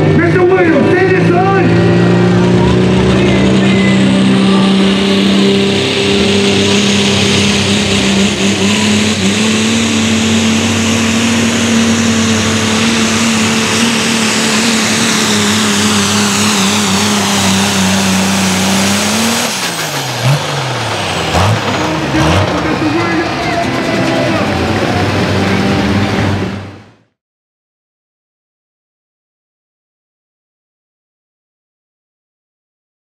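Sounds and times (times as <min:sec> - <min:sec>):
diesel truck engine at full throttle: 0:00.0 - 0:27.2
engine revving: 0:00.0 - 0:27.2.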